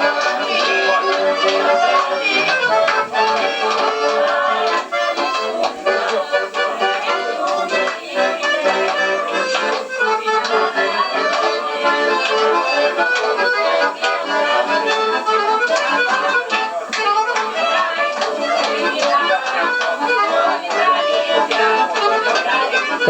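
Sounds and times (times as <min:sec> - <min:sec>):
button accordion playing a tune: 0:00.0 - 0:23.0.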